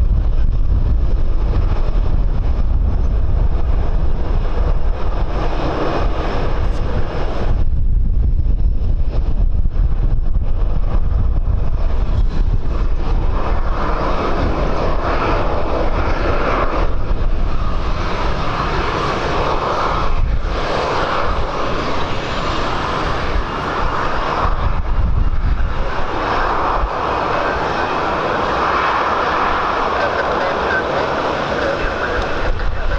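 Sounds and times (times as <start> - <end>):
jet engines roaring: 0.0 - 32.9
wind on microphone: 0.0 - 32.9.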